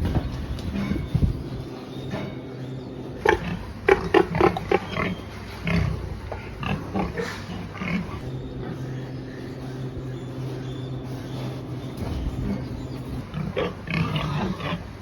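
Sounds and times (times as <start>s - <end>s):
pigs grunting: 0.0s - 15.0s
steady low hum: 0.0s - 15.0s.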